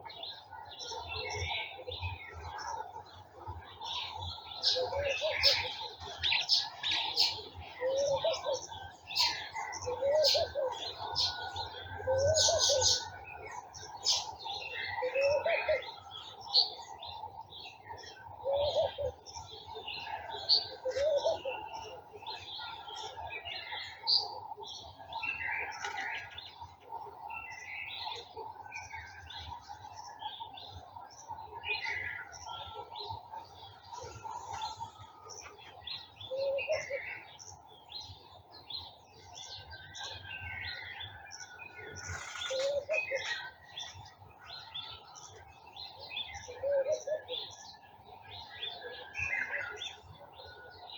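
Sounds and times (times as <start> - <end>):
birds chirping and singing: 0.0 - 50.9.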